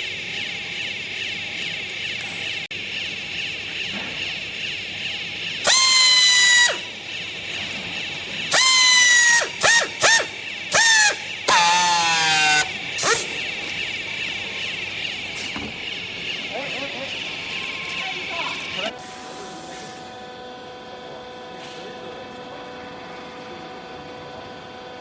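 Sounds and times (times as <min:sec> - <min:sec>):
baler motor and pump whining: 0:00.0 - 0:25.0.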